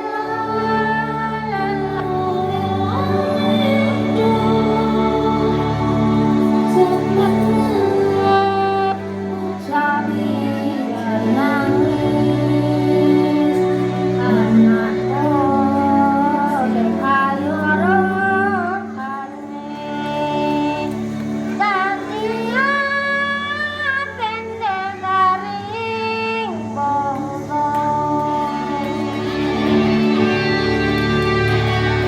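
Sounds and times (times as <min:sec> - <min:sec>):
children singing: 0:00.0 - 0:25.8
instrumental backing music: 0:00.0 - 0:32.0.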